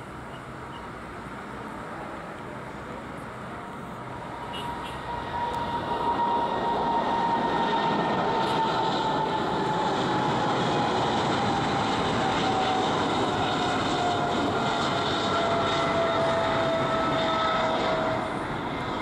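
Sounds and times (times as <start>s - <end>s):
jet engine roar with whine: 0.0s - 19.0s.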